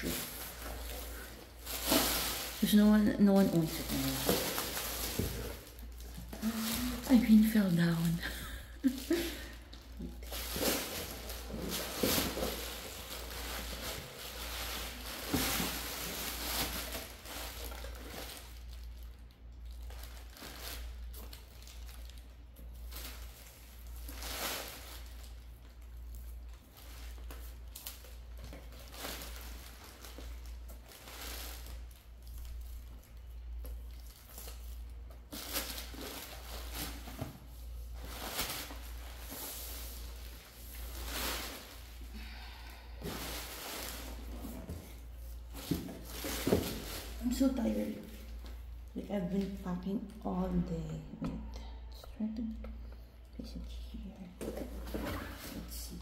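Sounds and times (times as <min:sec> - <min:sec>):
plastic packaging crinkling: 0:00.0 - 0:50.2.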